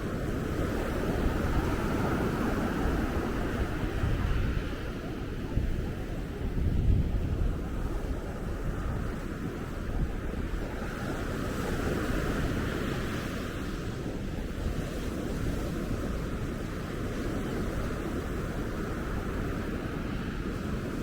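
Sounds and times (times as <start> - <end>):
ocean surf on a beach: 0.0 - 21.0
wind buffeting microphone: 0.0 - 21.0.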